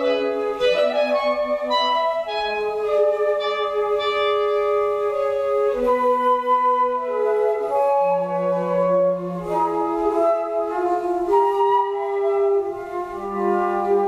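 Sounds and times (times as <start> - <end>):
flutes and clarinet chamber music: 0.0 - 14.0.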